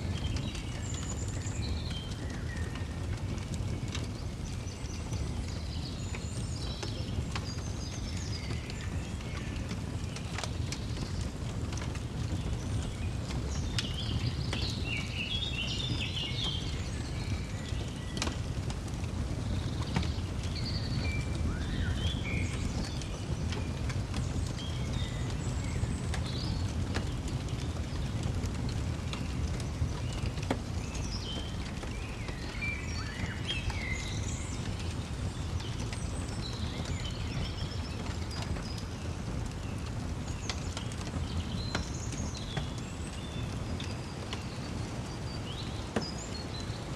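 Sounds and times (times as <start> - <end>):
fireplace burning and crackling: 0.0 - 46.9
small birds chirping: 0.0 - 46.9.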